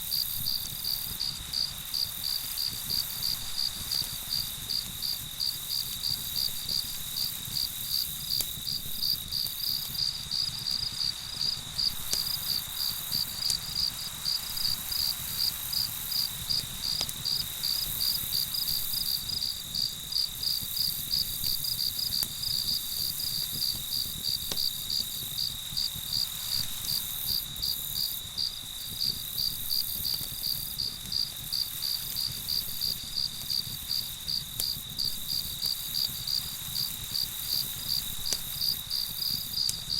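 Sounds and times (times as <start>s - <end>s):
campfire crackles: 0.0s - 39.9s
crickets chirping: 0.1s - 39.9s.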